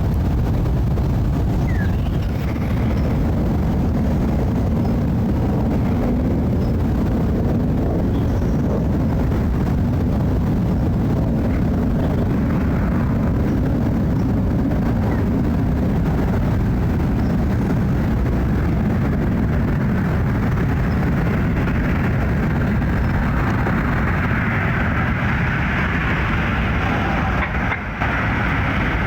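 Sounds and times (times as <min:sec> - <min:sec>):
jet airliner engine roar: 0:00.0 - 0:29.0.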